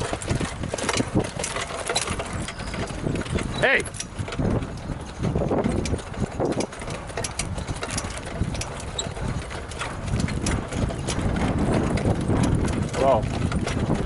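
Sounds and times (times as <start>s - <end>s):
horse hoofbeats: 0.0s - 14.0s.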